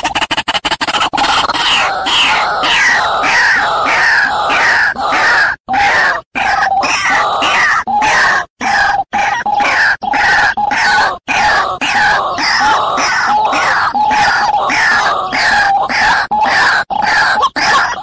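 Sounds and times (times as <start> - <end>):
bird croaking calls: 0.0 - 18.0.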